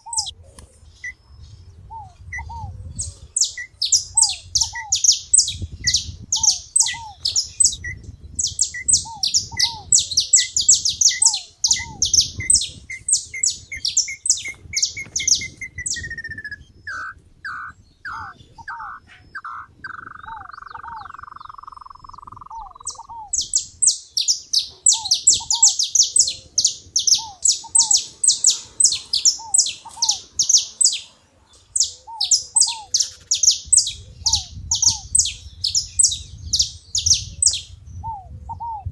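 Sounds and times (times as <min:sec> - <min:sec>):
rapid high bird chirps: 0:00.0 - 0:00.4, 0:03.4 - 0:37.8
down-slurred bird calls: 0:00.0 - 0:38.9.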